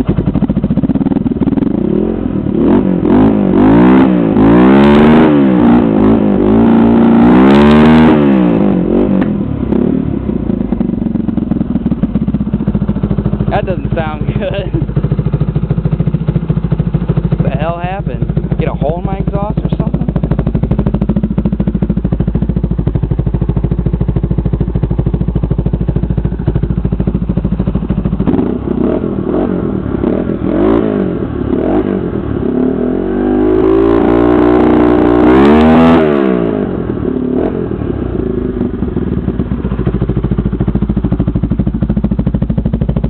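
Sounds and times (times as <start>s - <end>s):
quad bike engine idling and revving: 0.0s - 43.0s.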